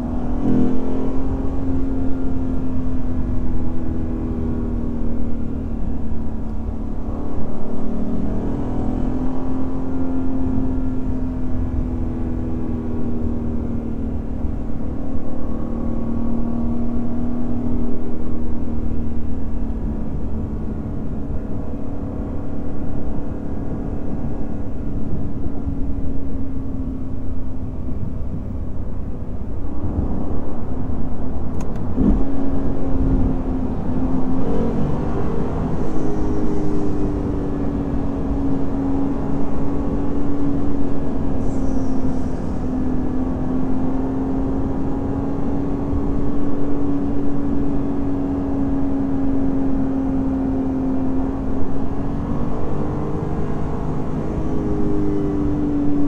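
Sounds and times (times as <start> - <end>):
car engine cruising: 0.0 - 56.0
road and tyre noise: 0.0 - 56.0.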